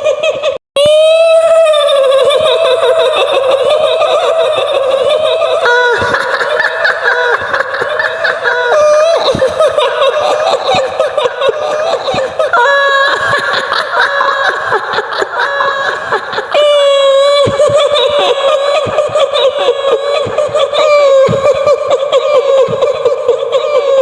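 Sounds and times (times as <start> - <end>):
woman cackling laughter: 2.0 - 24.0.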